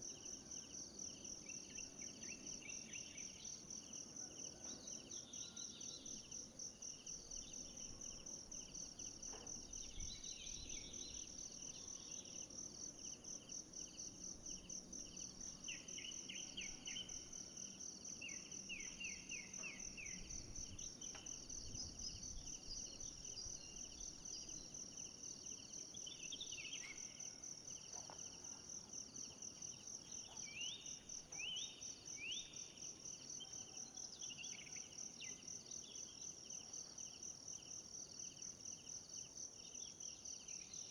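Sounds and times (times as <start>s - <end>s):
high-pitched insect chorus: 0.1s - 40.9s.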